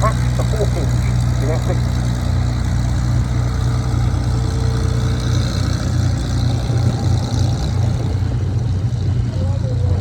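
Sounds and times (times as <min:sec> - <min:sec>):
aircraft engine running: 0:00.0 - 0:10.0.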